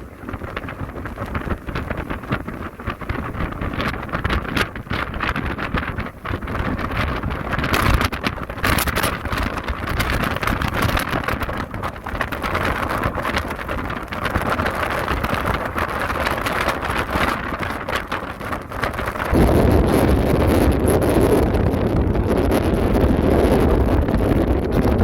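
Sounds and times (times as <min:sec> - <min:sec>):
heavy surf: 0:00.0 - 0:25.0
wind buffeting microphone: 0:00.0 - 0:25.0.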